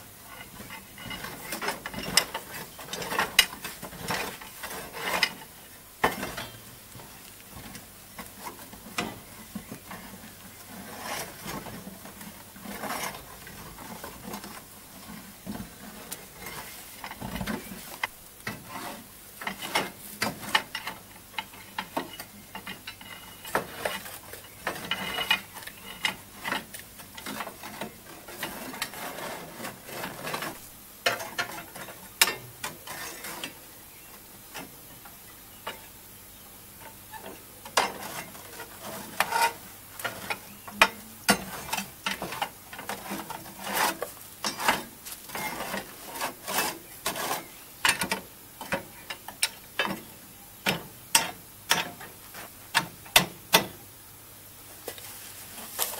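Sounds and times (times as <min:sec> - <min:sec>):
rake scraping through cinders: 0:00.0 - 0:34.0, 0:36.8 - 0:50.2, 0:54.8 - 0:55.9.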